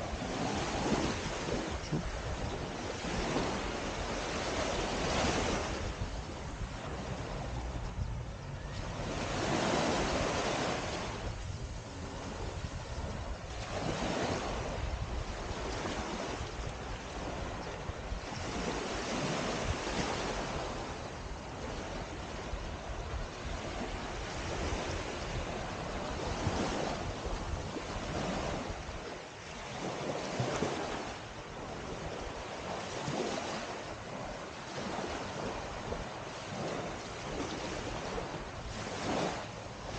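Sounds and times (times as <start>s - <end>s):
waves washing on sand: 0.0s - 39.9s
wind rumbling on microphone: 0.0s - 39.9s.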